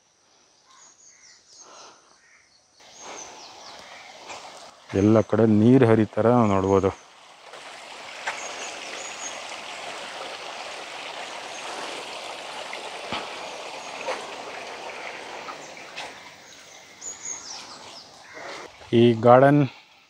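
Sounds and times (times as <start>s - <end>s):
water trickling over stones: 2.8s - 20.0s.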